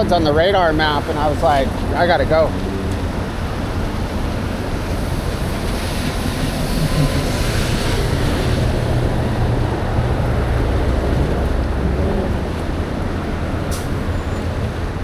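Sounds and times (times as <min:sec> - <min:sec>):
wet road noise: 0:00.0 - 0:15.0
wind rushing over microphone: 0:00.0 - 0:15.0.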